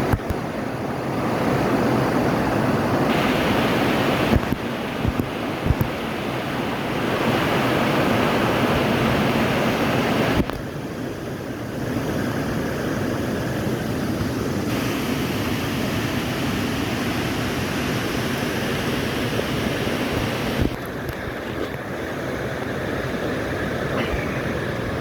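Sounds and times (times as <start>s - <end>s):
waterfall rushing: 0.0s - 10.5s, 12.2s - 25.0s.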